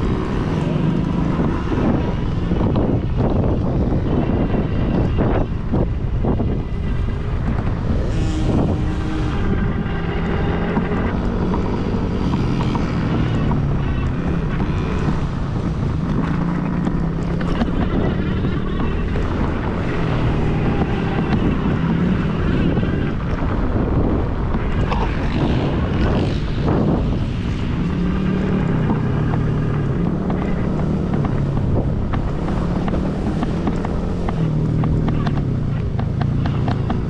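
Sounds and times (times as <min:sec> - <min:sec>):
dirt bike engines running: 0:00.0 - 0:37.0
wind buffeting microphone: 0:00.0 - 0:37.0.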